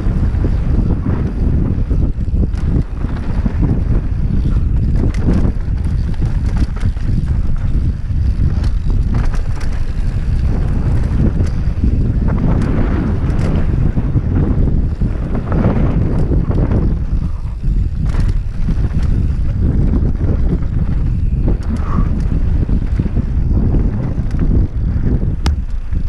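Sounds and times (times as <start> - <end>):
bike knocks and rattles: 0.0 - 26.0
wind buffeting microphone: 0.0 - 26.0.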